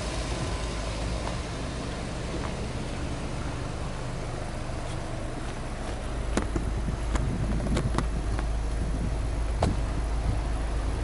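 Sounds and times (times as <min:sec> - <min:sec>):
car exhaust rumble: 0:00.0 - 0:11.0.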